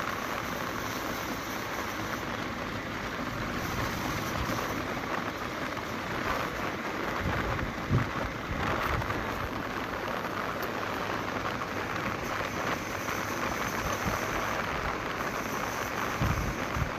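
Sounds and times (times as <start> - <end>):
road and vehicle noise: 0.0 - 16.9
wind rushing over microphone: 2.8 - 16.9.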